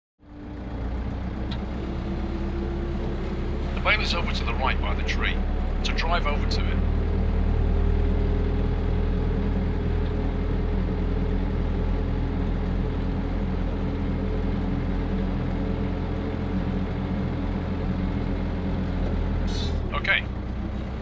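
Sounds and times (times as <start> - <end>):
tractor diesel engine rumbling: 0.2 - 21.0.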